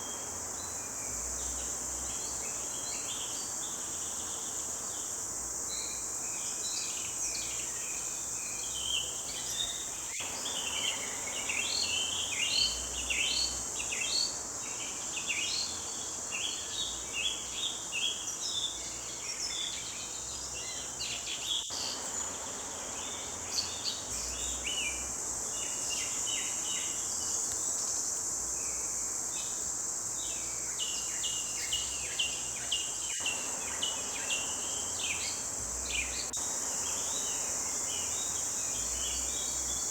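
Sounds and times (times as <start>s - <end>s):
insect drone: 0.0s - 39.9s.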